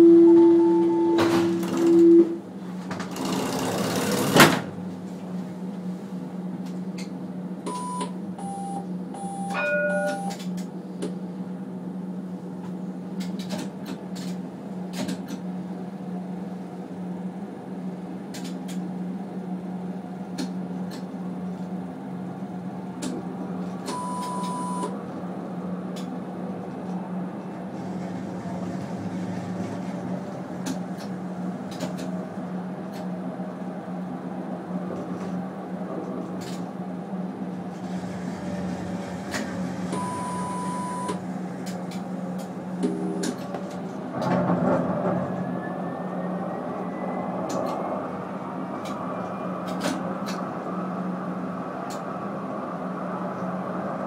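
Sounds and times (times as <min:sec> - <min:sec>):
tram electric hum: 0:00.0 - 0:54.0.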